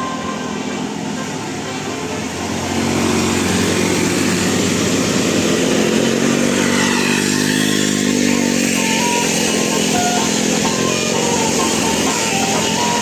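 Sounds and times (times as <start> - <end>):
vehicle engine revving: 2.2 - 13.0.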